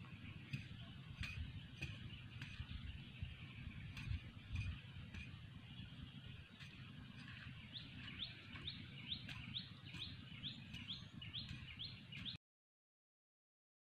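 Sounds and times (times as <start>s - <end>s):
bird chirping: 0.0s - 12.4s
low steady rumble: 0.0s - 12.4s.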